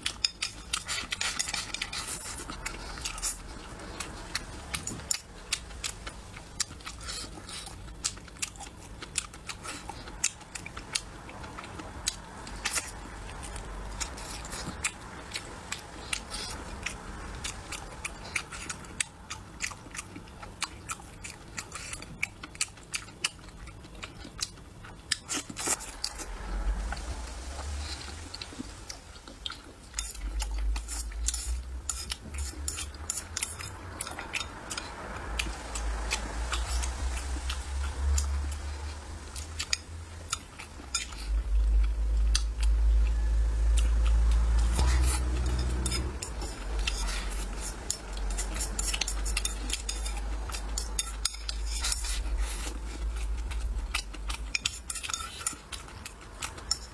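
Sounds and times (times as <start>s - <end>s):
close-up chewing: 0.0s - 56.9s.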